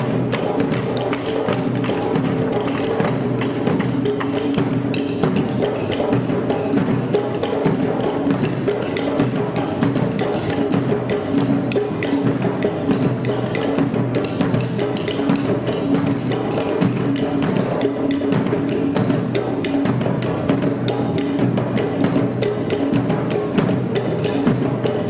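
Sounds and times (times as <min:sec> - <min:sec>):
drums: 0:00.0 - 0:25.0.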